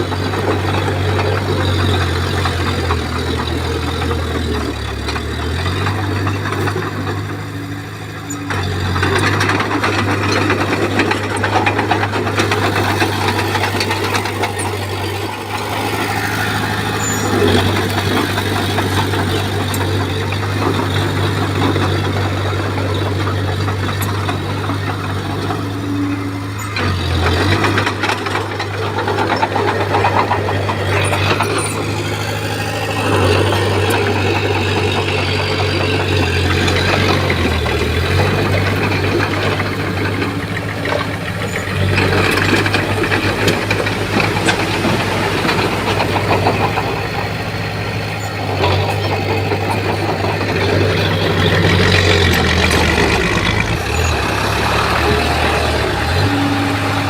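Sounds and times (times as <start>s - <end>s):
bulldozer clattering: 0.0s - 57.0s
diesel engine humming: 0.0s - 57.0s.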